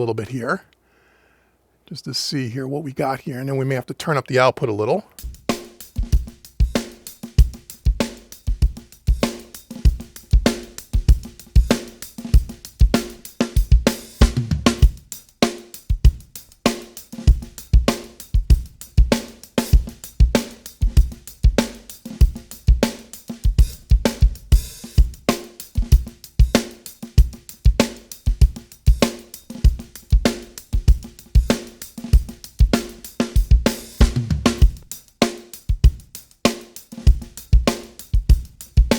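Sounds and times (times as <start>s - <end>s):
drum kit playing a groove: 5.2s - 38.9s.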